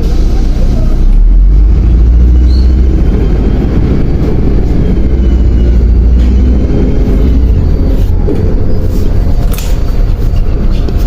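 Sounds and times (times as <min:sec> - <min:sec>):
bus diesel engine rumble: 0:00.0 - 0:11.0
rattly road noise: 0:00.0 - 0:11.0.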